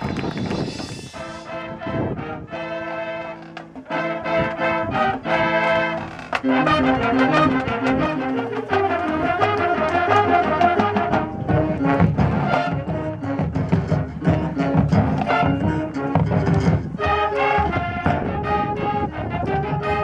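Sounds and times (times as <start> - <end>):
marching band playing: 0.0 - 20.0
low drums: 3.6 - 20.0.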